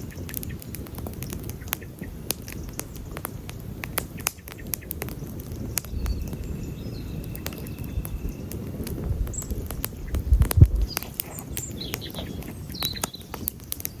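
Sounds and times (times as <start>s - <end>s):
campfire crackling and popping: 0.0s - 14.0s
low rumble of flames: 0.0s - 14.0s.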